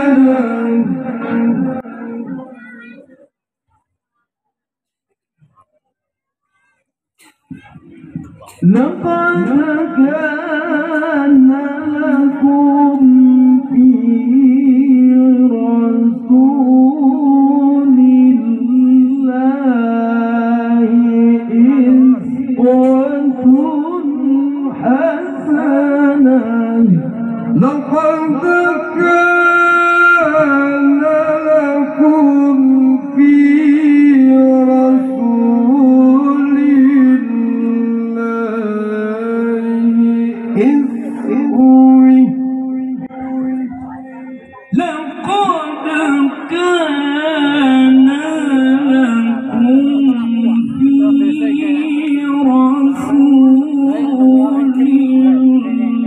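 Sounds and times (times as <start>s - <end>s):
man chanting through loudspeakers: 0.0s - 3.1s, 7.5s - 56.0s.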